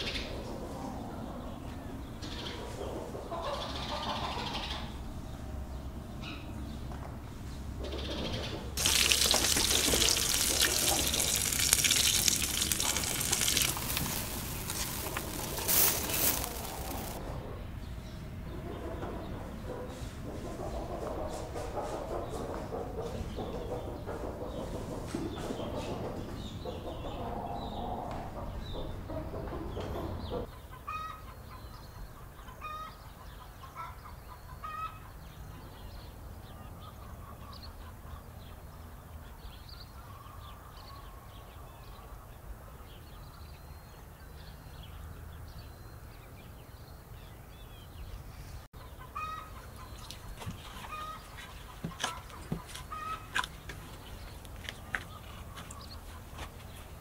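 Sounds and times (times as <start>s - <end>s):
chickens clucking: 0.0s - 38.4s, 48.7s - 57.0s
background noise: 0.0s - 57.0s.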